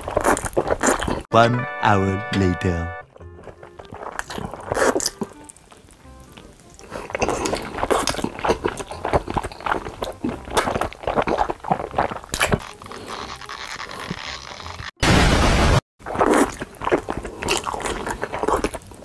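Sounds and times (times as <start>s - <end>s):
person biting and chewing food: 0.0s - 1.3s, 3.2s - 15.0s, 16.0s - 19.0s.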